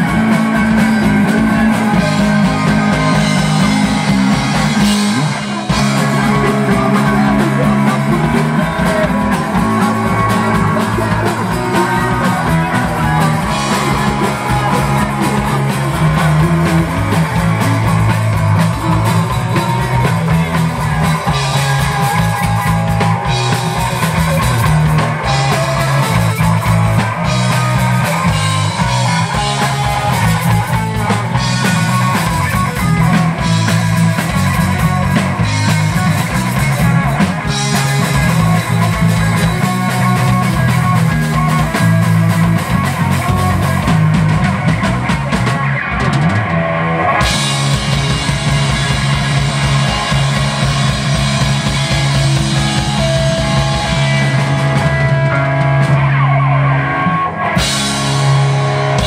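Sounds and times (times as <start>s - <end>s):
drum kit beat: 0.0s - 46.6s, 47.2s - 56.3s, 57.0s - 59.0s
bass guitar: 0.0s - 59.0s
distorted electric guitar: 0.0s - 59.0s.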